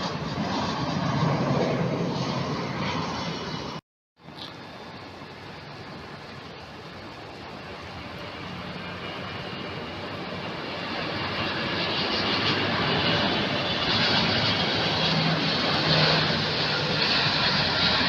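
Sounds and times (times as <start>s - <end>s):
jet engines roaring: 0.0s - 3.8s, 4.6s - 18.0s.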